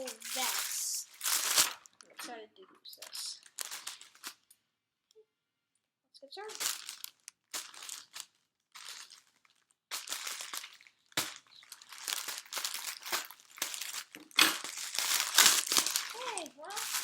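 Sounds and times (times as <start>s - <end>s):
packaging crinkling and rustling: 0.0s - 2.3s, 2.9s - 4.6s, 6.4s - 17.0s.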